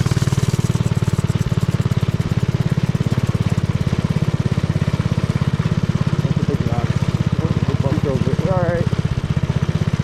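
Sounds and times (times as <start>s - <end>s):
single-cylinder engine running: 0.0s - 10.0s.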